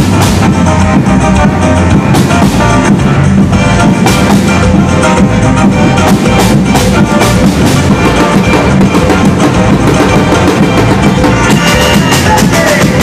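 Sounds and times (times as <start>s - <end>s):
percussion ensemble drumming: 0.0s - 13.0s.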